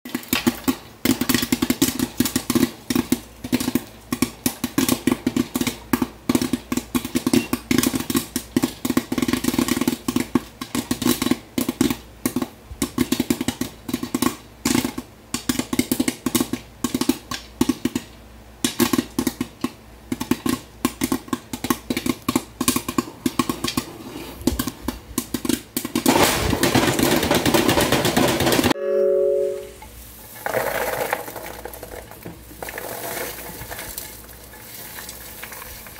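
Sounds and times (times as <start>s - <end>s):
popcorn kernels popping: 0.1s - 23.9s, 24.5s - 28.8s, 29.6s - 35.9s
popped corn rattling in metal pan: 0.1s - 23.9s, 24.6s - 28.8s, 29.9s - 35.9s.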